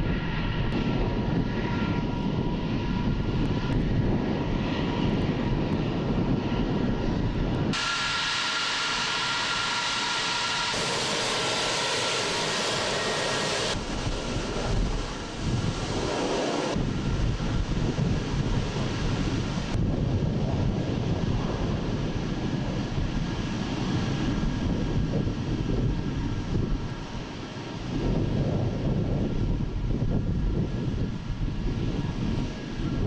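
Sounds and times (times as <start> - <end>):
high turbine whine: 0.0 - 33.0
jet engines rumbling: 0.0 - 33.0.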